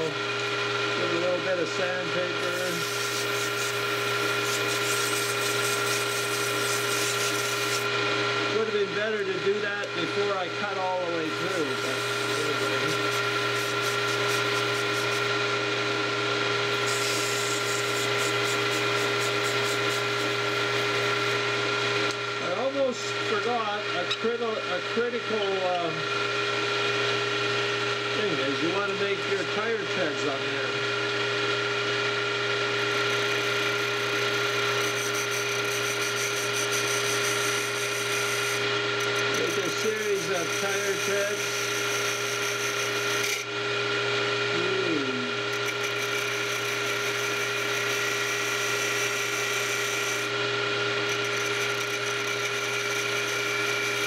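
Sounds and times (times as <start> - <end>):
lathe motor humming: 0.0 - 54.0
parting tool cutting wood: 0.0 - 54.0.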